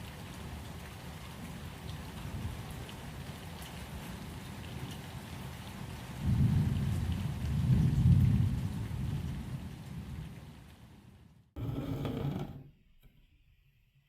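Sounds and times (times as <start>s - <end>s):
steady rain: 0.0s - 11.5s.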